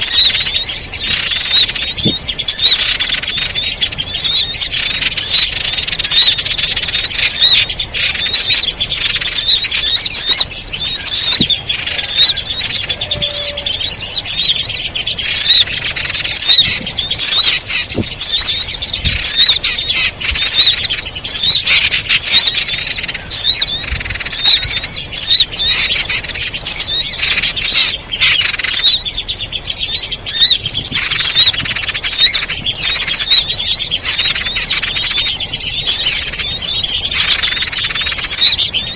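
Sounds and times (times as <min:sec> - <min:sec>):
many small birds chirping: 0:00.0 - 0:38.9.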